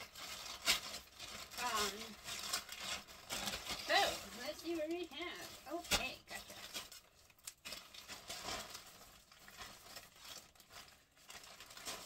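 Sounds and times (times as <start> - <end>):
bag packaging crinkling and rustling: 0.0 - 12.0.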